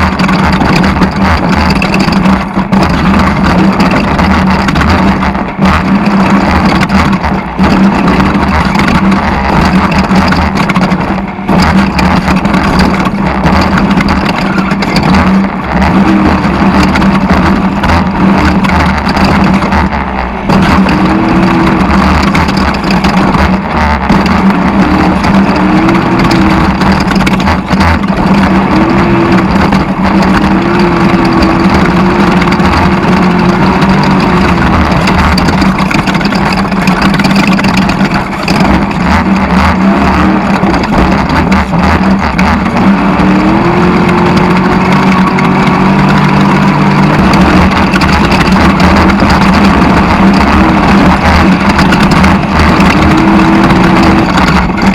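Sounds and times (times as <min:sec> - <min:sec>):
loud rush of noise: 0:00.0 - 0:54.9
race car engine revving: 0:00.0 - 0:54.9.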